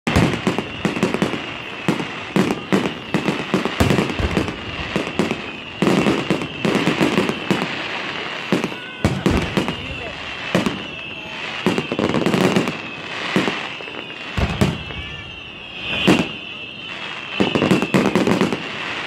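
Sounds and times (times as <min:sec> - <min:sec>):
firework crackling: 0:00.1 - 0:19.0
firework shells bursting: 0:00.1 - 0:19.0.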